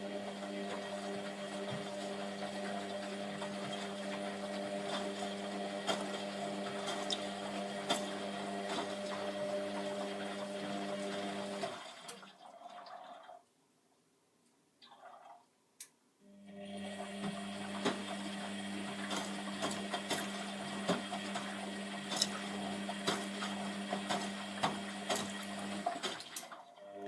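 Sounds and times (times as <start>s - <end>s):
washing machine motor humming: 0.0s - 12.3s, 16.3s - 27.0s.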